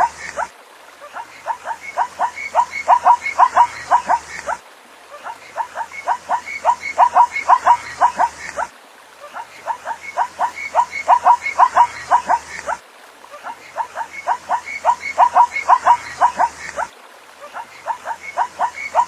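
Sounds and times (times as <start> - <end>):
zebra yelping barks: 0.0 - 4.6, 5.2 - 8.7, 9.3 - 12.8, 13.4 - 19.0.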